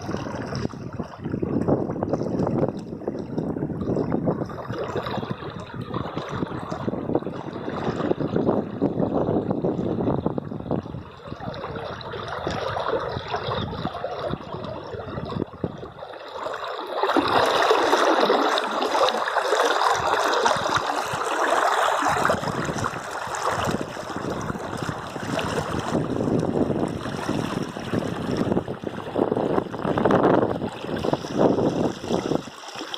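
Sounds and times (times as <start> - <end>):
river water flowing and babbling: 0.0 - 32.9.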